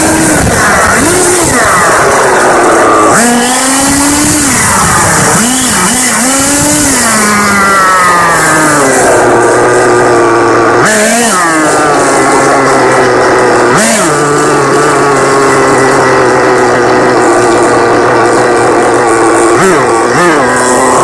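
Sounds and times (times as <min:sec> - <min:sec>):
small engine high buzz: 0:00.0 - 0:21.0.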